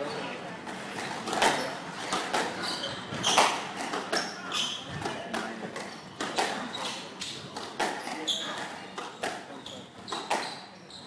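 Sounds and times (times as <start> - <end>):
squash ball hitting racquet and walls: 0.7 - 10.7
shoe squeaks: 1.0 - 11.0.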